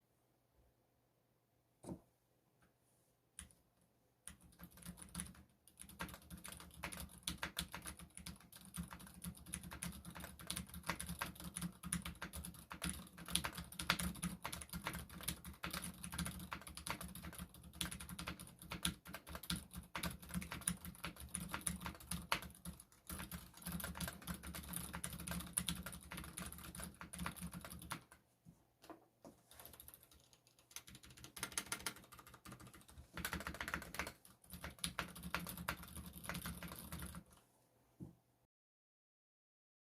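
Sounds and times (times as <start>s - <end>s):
quiet mechanical keyboard typing: 4.2s - 28.2s, 29.4s - 37.5s.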